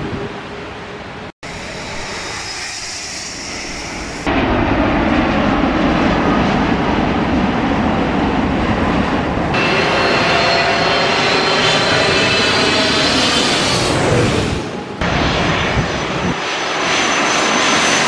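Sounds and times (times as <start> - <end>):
jet airliner engines: 0.0 - 18.0
high engine whine: 1.1 - 18.0.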